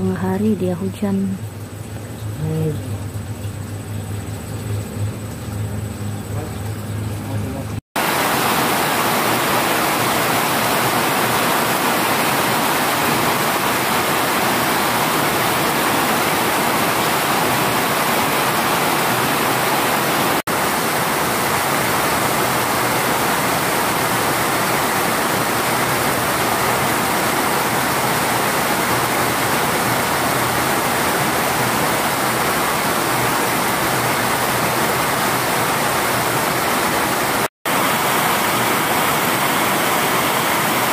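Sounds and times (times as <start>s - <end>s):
heavy rain on broad leaves: 8.0s - 40.9s.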